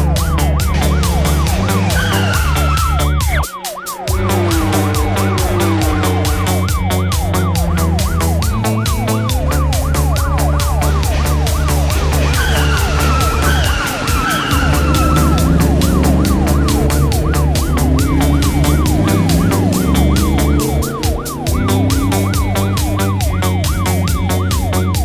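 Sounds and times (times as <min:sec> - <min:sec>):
background music with beat: 0:00.0 - 0:25.0
police siren: 0:00.0 - 0:25.0.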